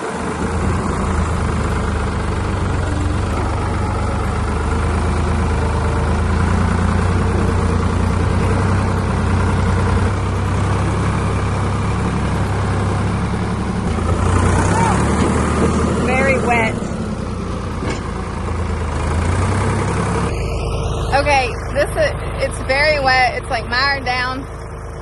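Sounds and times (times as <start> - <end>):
backhoe engine droning: 0.0 - 25.0.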